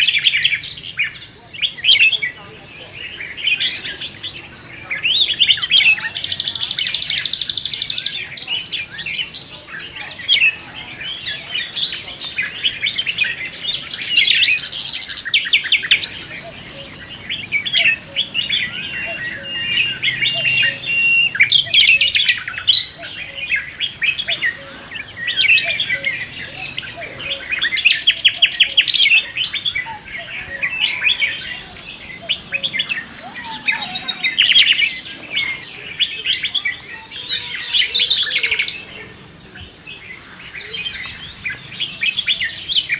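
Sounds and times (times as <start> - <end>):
loud fast bird trill: 0.0 - 38.9
birds chirping and calling: 0.0 - 42.9.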